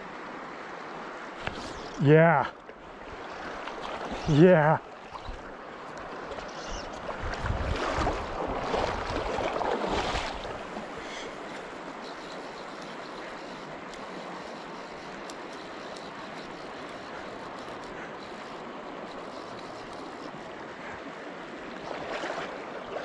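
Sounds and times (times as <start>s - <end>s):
river rushing: 0.0s - 23.0s.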